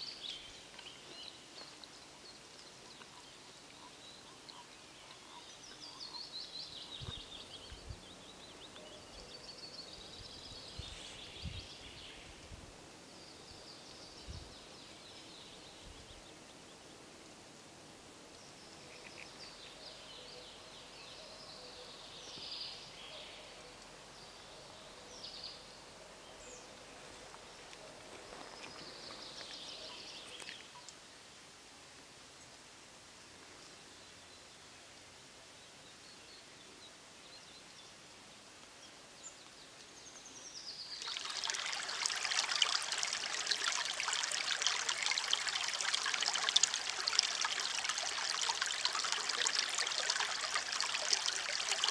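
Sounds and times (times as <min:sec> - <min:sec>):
songbirds singing: 0:00.0 - 0:17.0, 0:18.3 - 0:31.0, 0:35.6 - 0:51.9
faint outdoor hiss: 0:00.0 - 0:51.9.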